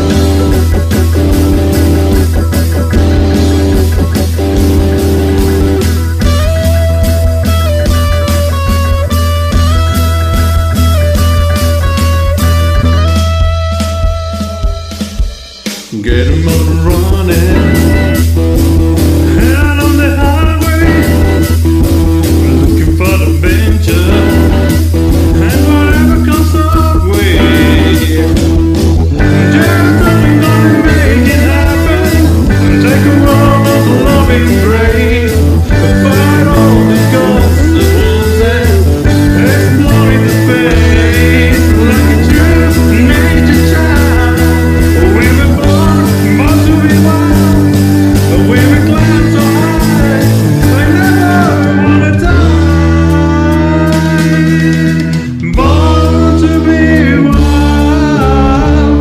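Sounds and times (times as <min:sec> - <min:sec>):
electric guitar lead bending: 0:00.0 - 0:59.0
hard rock music: 0:00.0 - 0:59.0.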